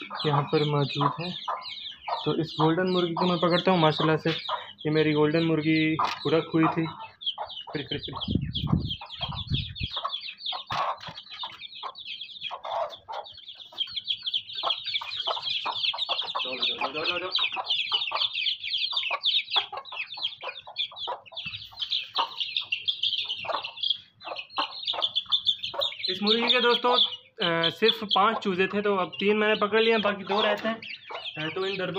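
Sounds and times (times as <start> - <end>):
chicks peeping: 0.0 - 31.9
hen clucking: 0.0 - 31.9.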